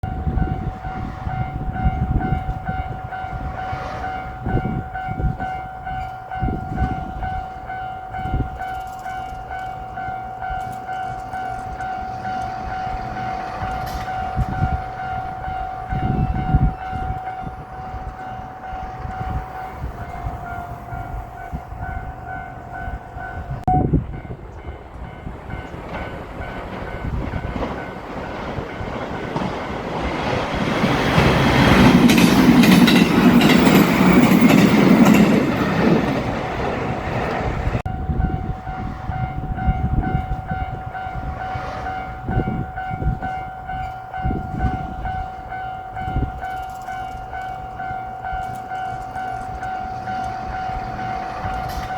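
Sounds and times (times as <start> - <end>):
electric train passing: 0.0 - 51.9
level crossing warning bell: 0.0 - 51.9
train wheels clattering on rails: 0.3 - 22.0, 24.1 - 51.9.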